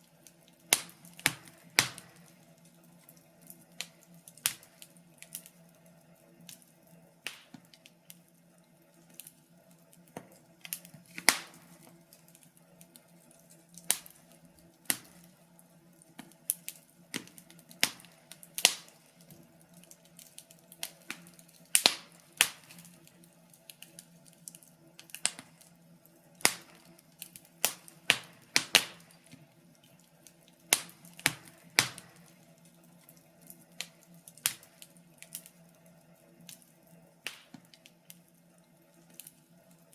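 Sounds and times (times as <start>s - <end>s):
faint steady low hum: 0.0s - 39.9s
wood fire crackling: 0.0s - 39.9s.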